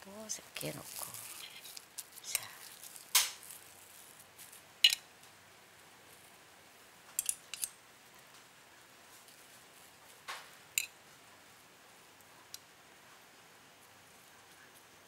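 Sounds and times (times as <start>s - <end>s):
quiet room hiss: 0.0s - 15.0s.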